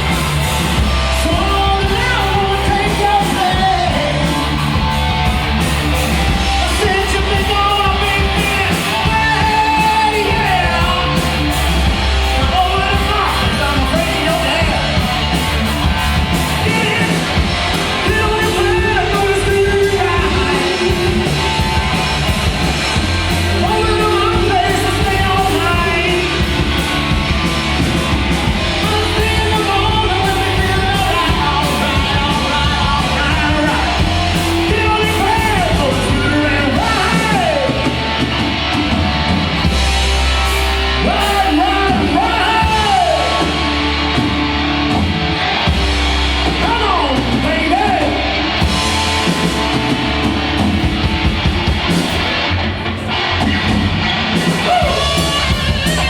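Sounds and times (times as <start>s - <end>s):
rock song with singer: 0.0s - 56.0s.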